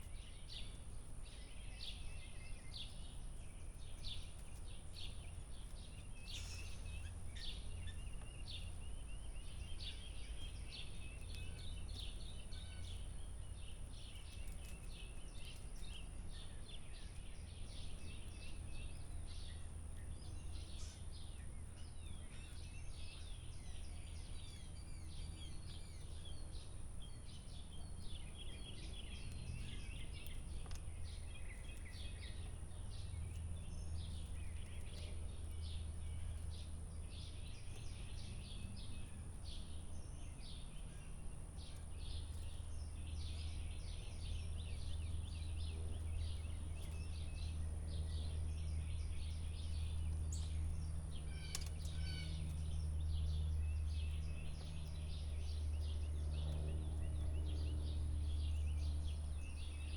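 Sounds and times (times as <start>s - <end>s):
low background hum: 0.0s - 59.9s
small birds chirping: 0.0s - 59.9s.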